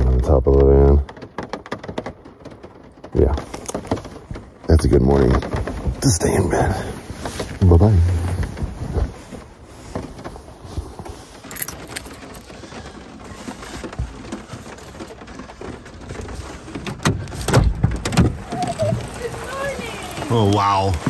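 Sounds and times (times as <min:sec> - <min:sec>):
handling noises: 0:00.0 - 0:21.0
rain hissing on a van roof: 0:00.0 - 0:21.0.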